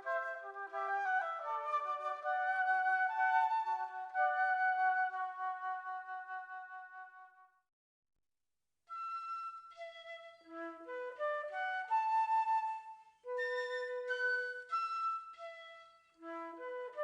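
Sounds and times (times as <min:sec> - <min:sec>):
flute ensemble playing: 0:00.0 - 0:07.0, 0:08.9 - 0:17.0.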